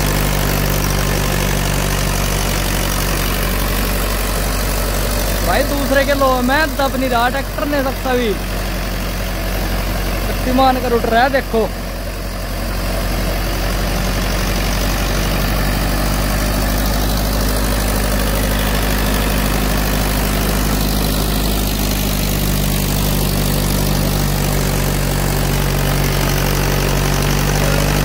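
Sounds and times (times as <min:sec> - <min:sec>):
tractor diesel engine at full throttle: 0:00.0 - 0:28.0.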